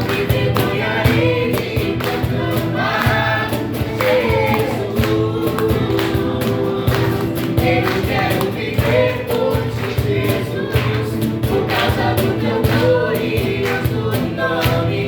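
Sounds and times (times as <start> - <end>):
band with a steady beat: 0.0 - 15.0
choir singing: 0.0 - 15.0.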